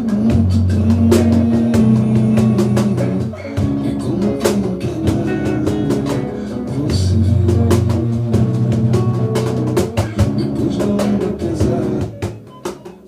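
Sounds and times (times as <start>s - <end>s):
samba percussion playing: 0.0s - 13.0s.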